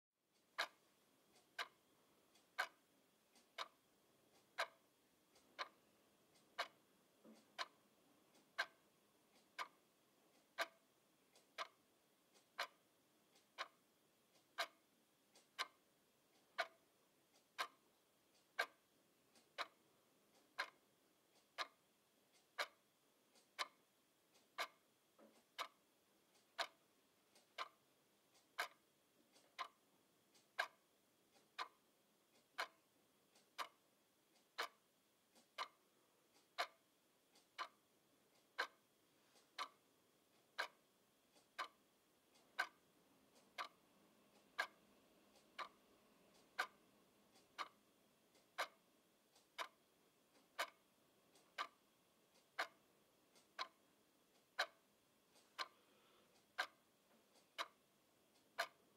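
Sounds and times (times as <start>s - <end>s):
wall clock ticking: 0.2s - 58.9s.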